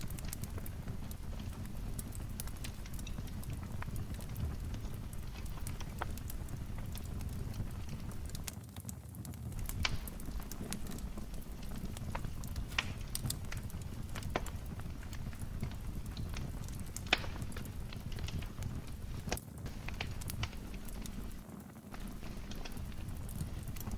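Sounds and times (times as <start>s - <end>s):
low rumble of flames: 0.0s - 23.9s
wood fire crackling and popping: 0.0s - 23.9s.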